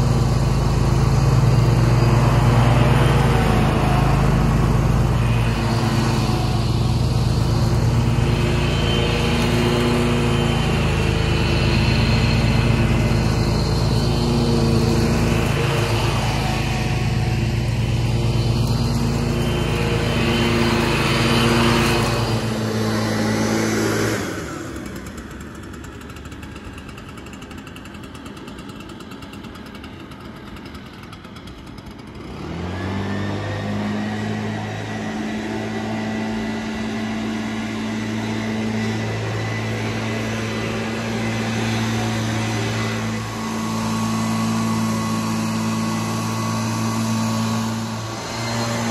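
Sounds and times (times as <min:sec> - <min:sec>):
mower engine running: 0:00.0 - 0:48.9
small engine revving with whine: 0:00.0 - 0:48.9.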